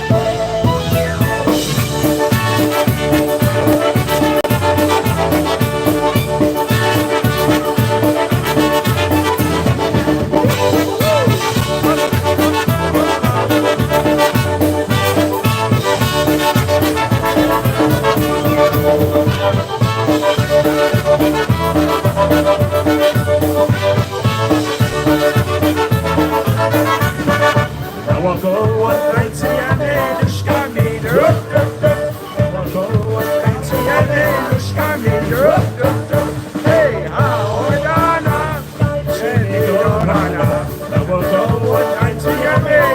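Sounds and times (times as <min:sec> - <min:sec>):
polka band playing: 0:00.0 - 0:42.9.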